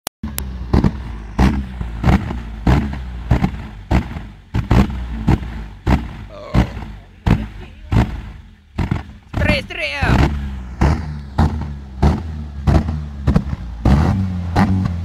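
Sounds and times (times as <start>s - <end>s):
car engine running: 0.2s - 15.0s
exhaust flame bangs: 0.5s - 15.0s.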